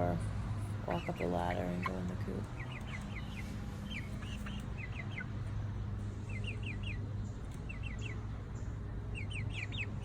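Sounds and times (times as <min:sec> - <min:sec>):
low steady hum: 0:00.0 - 0:10.0
young chickens peeping: 0:00.1 - 0:10.0.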